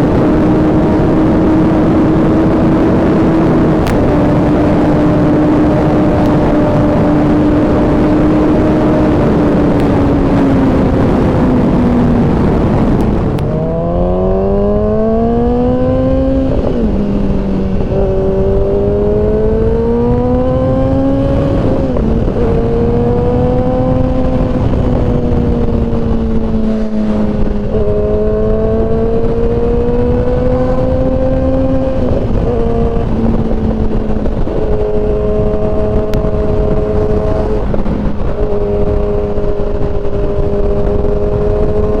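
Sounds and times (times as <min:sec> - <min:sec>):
motorcycle engine revving: 0:00.0 - 0:42.0
wind rush: 0:00.0 - 0:42.0.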